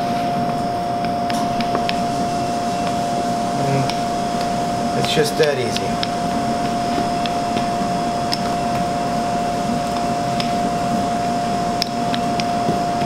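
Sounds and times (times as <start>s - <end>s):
machine hum with whine: 0.0s - 13.0s
rolling pin rolling dough: 0.0s - 13.0s.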